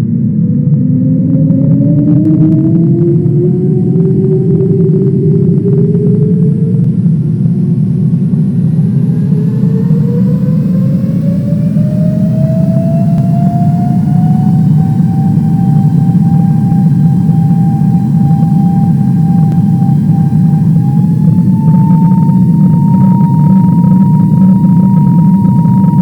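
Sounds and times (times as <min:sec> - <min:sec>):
jet engines spooling up: 0:00.0 - 0:26.0.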